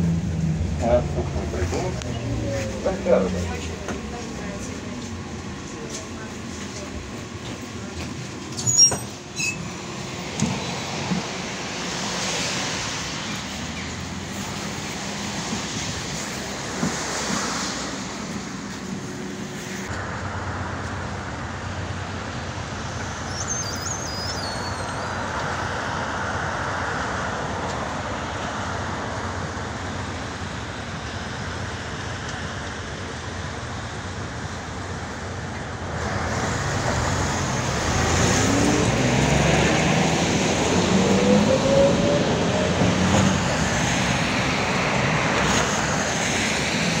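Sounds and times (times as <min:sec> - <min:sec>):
street traffic: 0:00.0 - 0:47.0.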